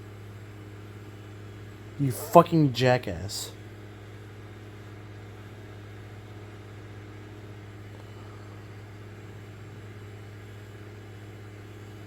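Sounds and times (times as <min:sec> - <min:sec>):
steady low hum with buzz: 0:00.0 - 0:12.0.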